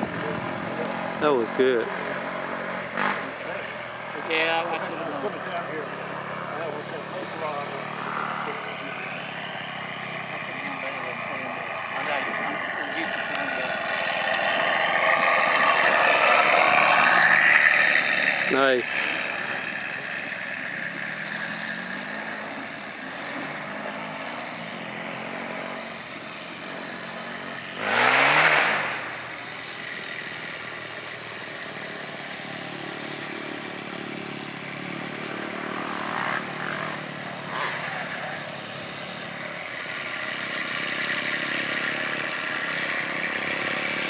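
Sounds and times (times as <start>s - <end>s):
model plane engine droning: 0.0s - 44.0s.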